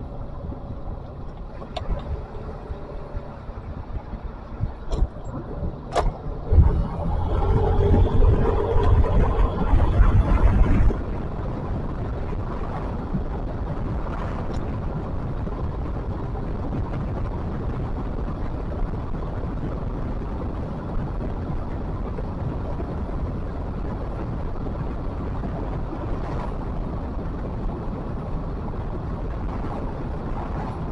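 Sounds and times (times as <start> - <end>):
vehicle rumbling: 0.0 - 30.9.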